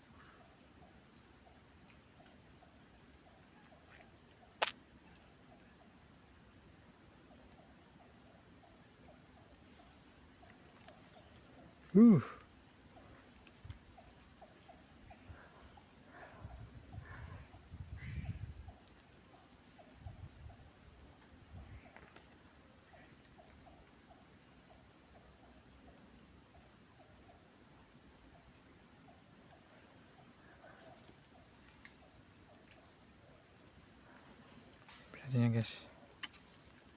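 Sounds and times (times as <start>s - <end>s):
crickets and insects chorus: 0.0s - 36.9s.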